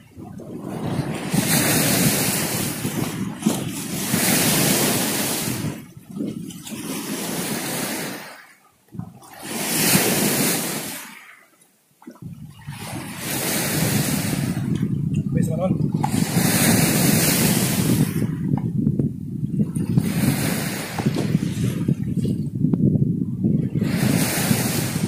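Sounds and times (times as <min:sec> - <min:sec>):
sea surging at shore: 0:00.0 - 0:18.5, 0:19.6 - 0:22.4, 0:23.5 - 0:25.0
wind: 0:00.0 - 0:25.0.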